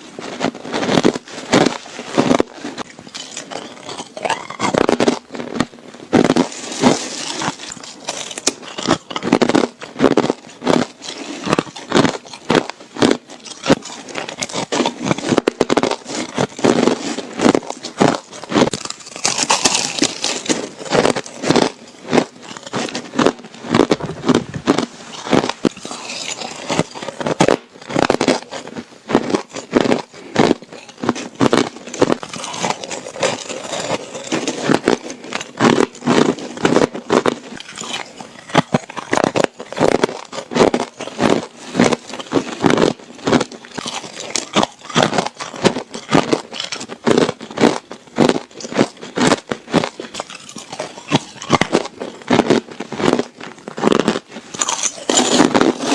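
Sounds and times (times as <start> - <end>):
ice crunched between teeth: 0.0 - 55.9.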